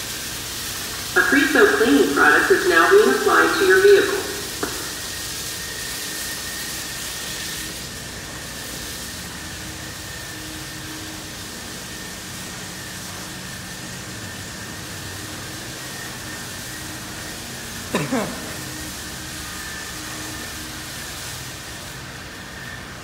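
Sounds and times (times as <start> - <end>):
car wash spraying water: 0.0 - 23.0
high whine: 0.0 - 23.0.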